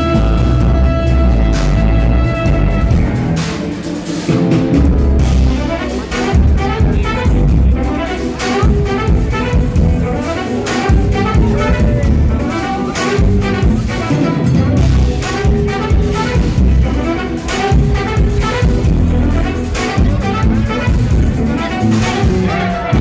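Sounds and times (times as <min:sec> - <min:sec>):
live jazz fusion band: 0:00.0 - 0:23.0
trumpet: 0:00.0 - 0:23.0.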